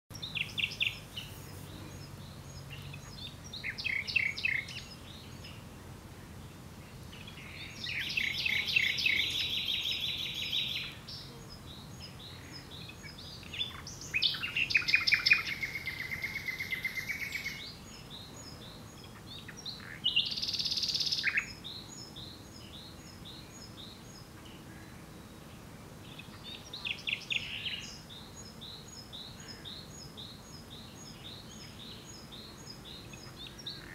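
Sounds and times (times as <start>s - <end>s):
nightingale singing: 0.1s - 5.7s, 6.4s - 33.9s.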